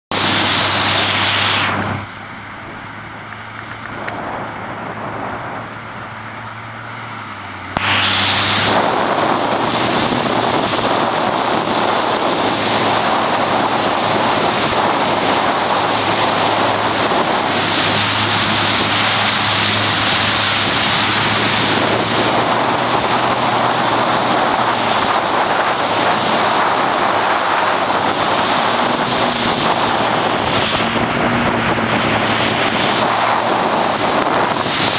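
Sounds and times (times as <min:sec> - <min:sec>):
water noise: 0:00.0 - 0:34.9
wind on microphone: 0:00.1 - 0:06.9, 0:07.7 - 0:34.9
watercraft engine running: 0:00.1 - 0:34.9.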